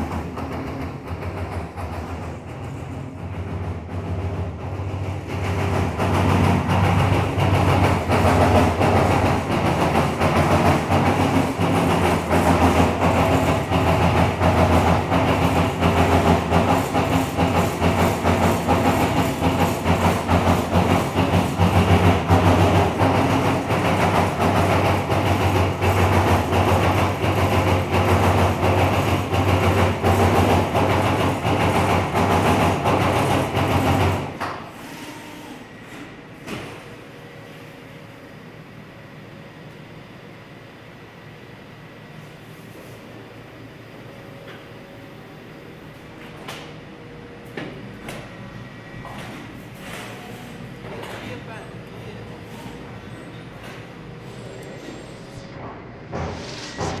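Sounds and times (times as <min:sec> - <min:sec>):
machine running with hum and rattle: 0:00.0 - 0:57.0.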